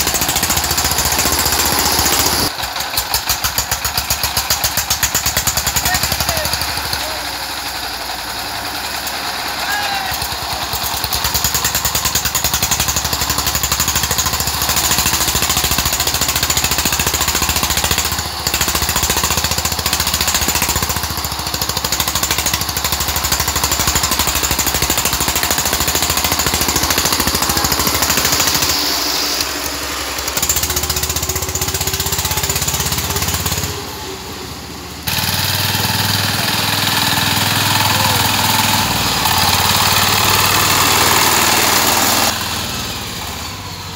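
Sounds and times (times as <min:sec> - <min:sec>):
diesel engine chugging: 0:00.0 - 0:43.9.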